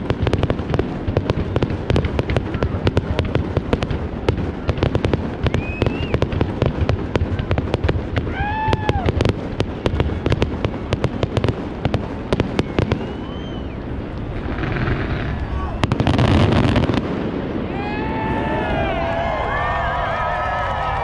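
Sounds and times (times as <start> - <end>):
fireworks whistles: 0.0 - 17.2
fireworks bangs and crackles: 0.0 - 21.0.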